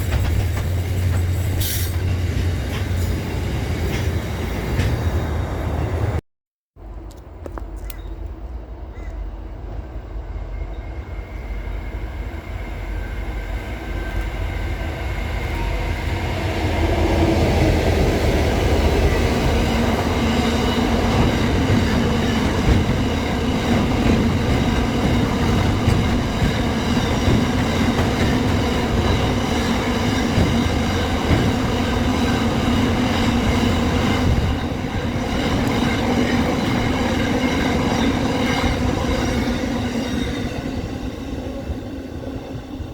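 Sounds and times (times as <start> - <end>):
train wheels rumbling on rail: 0.0 - 6.2, 6.8 - 42.9.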